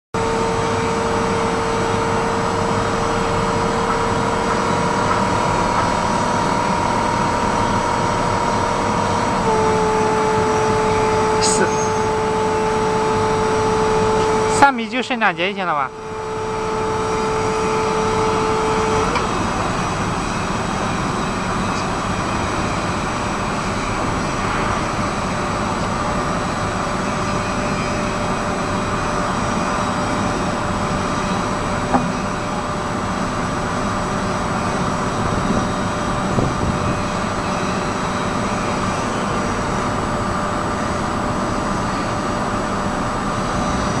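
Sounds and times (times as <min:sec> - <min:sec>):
forklift whine: 0:00.2 - 0:44.0.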